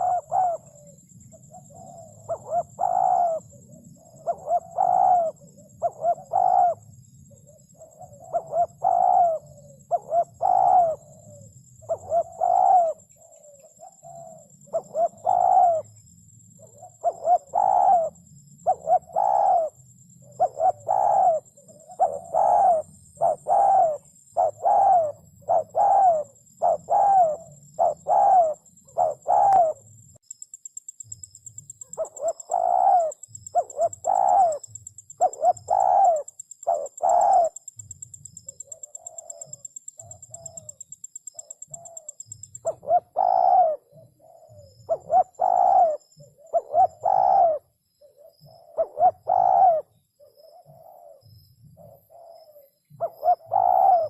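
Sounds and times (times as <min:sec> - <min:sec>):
dove cooing: 0:00.0 - 0:30.0, 0:31.8 - 0:54.0.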